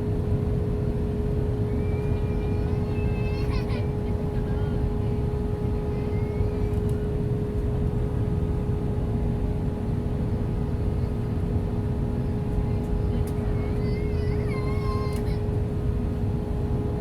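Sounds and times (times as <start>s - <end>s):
constant hum tone: 0.0s - 17.0s
aircraft cabin rumble: 0.1s - 17.0s.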